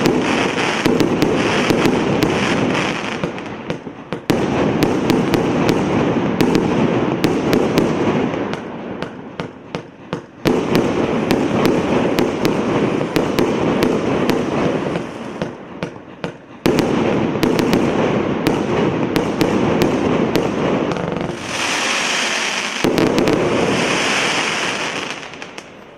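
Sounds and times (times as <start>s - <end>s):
fireworks barrage bangs: 0.0s - 25.8s.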